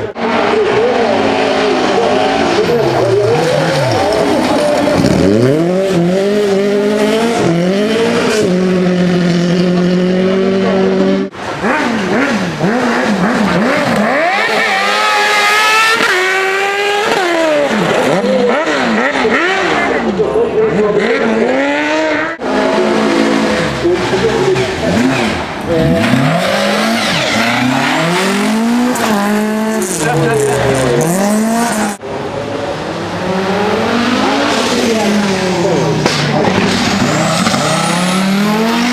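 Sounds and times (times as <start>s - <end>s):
car accelerating with upshifts: 0.0s - 38.9s
rally car engine revving: 0.0s - 38.9s.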